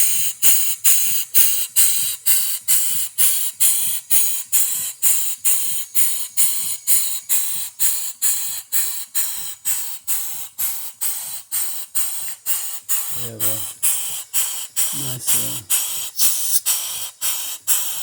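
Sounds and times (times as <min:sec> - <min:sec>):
steam engine chuffing: 0:00.0 - 0:18.0.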